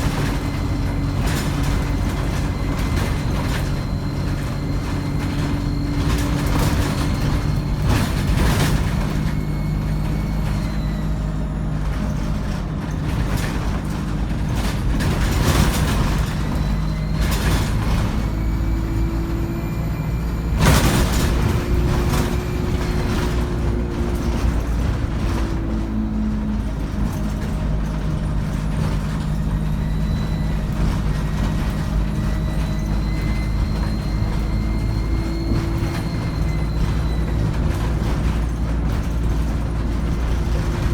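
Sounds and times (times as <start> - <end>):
bus diesel engine drone: 0.0 - 40.9
turbo whine: 0.0 - 40.9.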